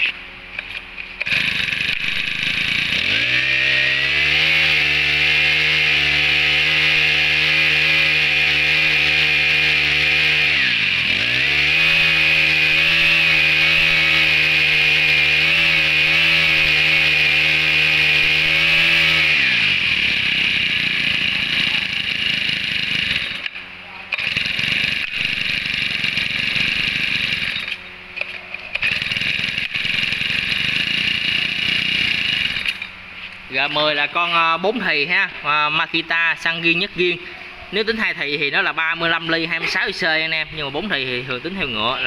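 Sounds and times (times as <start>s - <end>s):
brush cutter engine revving: 0.0s - 42.0s.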